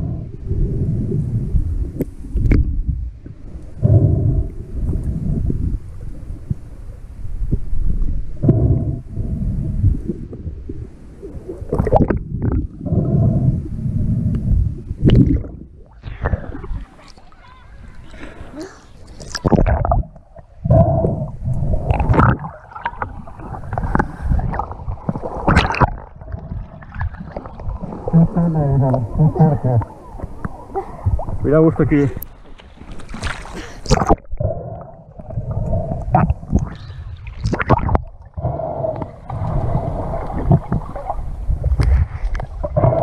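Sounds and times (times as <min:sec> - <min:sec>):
water sloshing and gurgling: 0:00.0 - 0:43.0.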